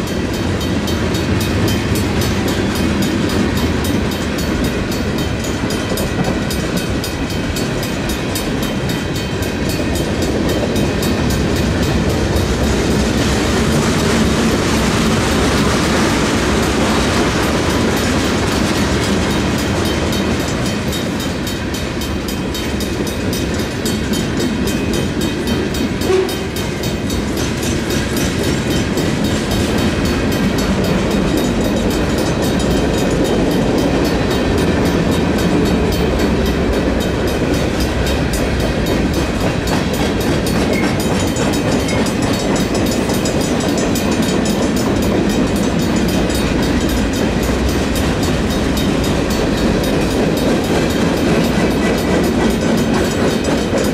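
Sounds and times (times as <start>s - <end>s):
crossing bells ringing: 0.0s - 53.9s
freight train wheels rumbling: 0.0s - 53.9s
train car knock: 0.3s - 53.9s.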